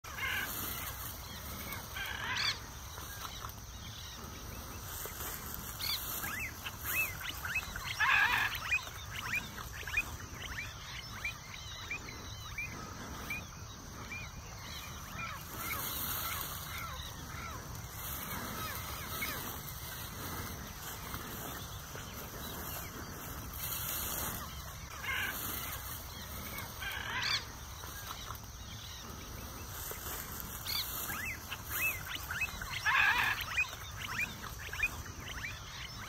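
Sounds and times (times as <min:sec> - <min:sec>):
wild birds calling: 0:00.0 - 0:36.0.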